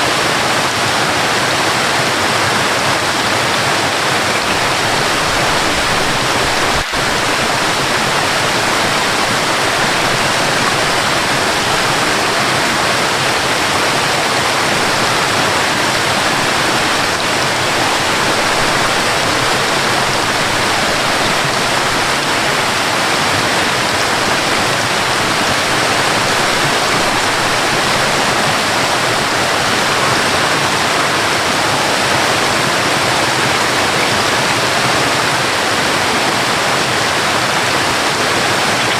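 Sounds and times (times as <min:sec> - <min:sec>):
rush of falling water: 0:00.0 - 0:38.9.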